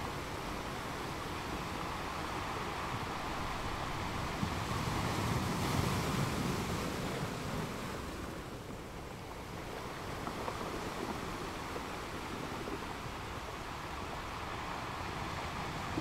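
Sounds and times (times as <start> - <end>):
ocean surf breaking on shore: 0.0 - 16.0.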